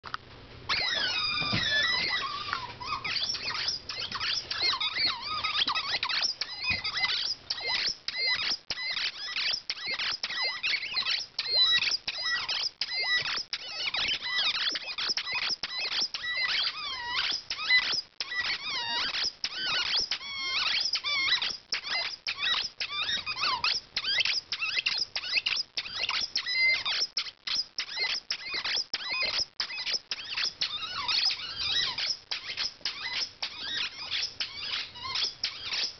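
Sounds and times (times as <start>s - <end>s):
high-pitched squeaking: 0.7s - 35.9s.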